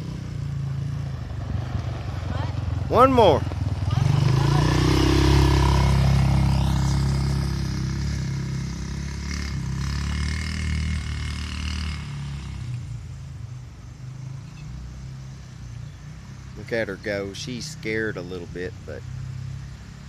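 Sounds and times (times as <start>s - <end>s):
go-kart engine running: 0.0s - 20.0s.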